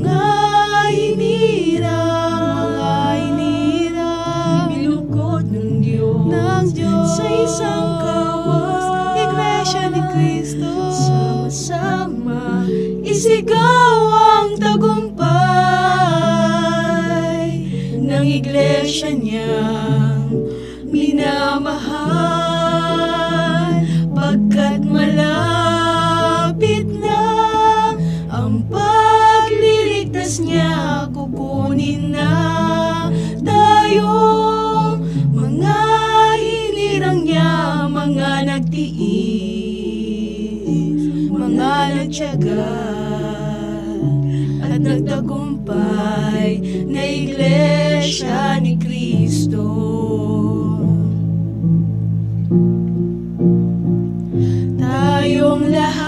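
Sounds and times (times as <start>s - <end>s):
female vocal trio singing: 0.0s - 51.3s, 54.4s - 56.0s
instrumental accompaniment: 0.0s - 56.0s.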